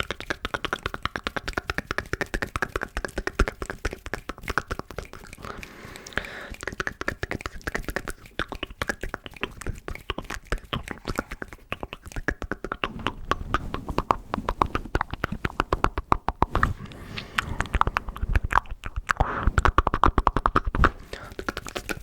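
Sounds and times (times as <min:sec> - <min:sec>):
wet mouth clicks and pops: 0:00.0 - 0:22.0.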